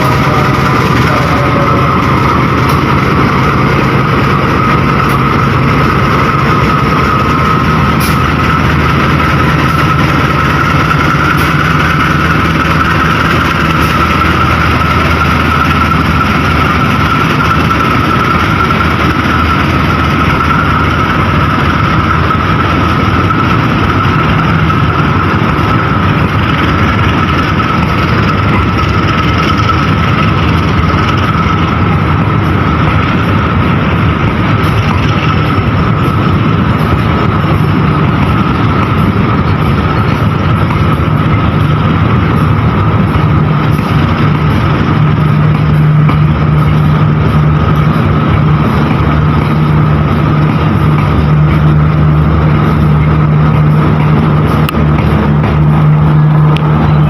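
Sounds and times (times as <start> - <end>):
diesel locomotive engine hum: 0.0 - 57.0
high whine: 0.0 - 57.0.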